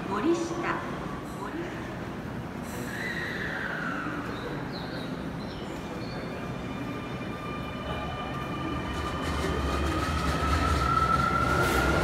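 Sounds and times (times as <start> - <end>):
high whine of wheels on rails: 0.0 - 12.0
subway train rumble: 0.0 - 12.0.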